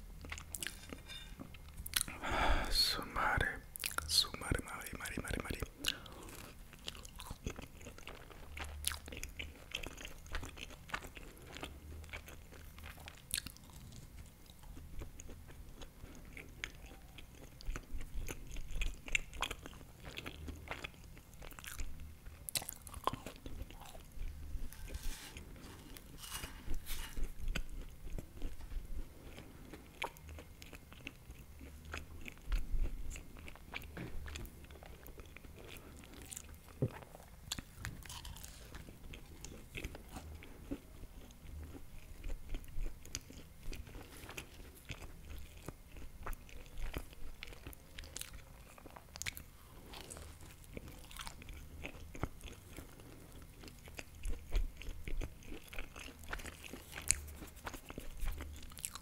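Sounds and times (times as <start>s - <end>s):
person chewing and biting food: 0.2s - 2.7s, 5.8s - 59.0s.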